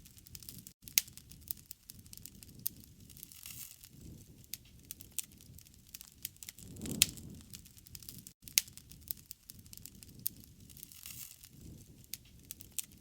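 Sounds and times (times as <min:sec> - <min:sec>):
campfire crackling and popping: 0:00.0 - 0:13.0
low rumble of flames: 0:00.2 - 0:13.0.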